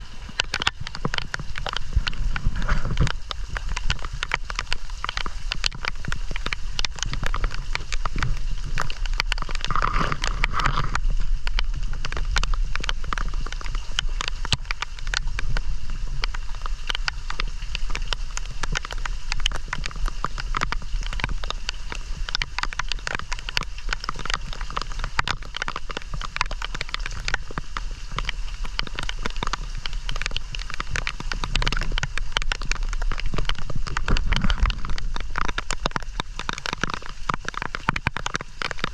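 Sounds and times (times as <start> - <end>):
heavy rain on hard surfaces: 0.0 - 38.9.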